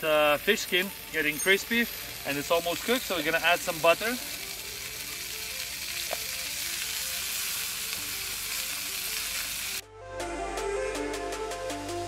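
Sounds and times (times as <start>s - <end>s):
fish sizzling in a pan: 0.0s - 9.8s.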